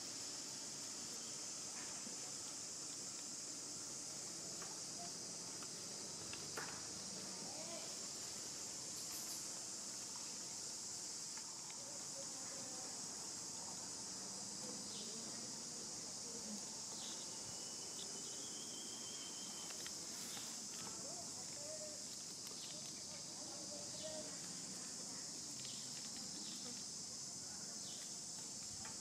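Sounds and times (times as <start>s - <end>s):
insects chorus: 0.0s - 29.0s.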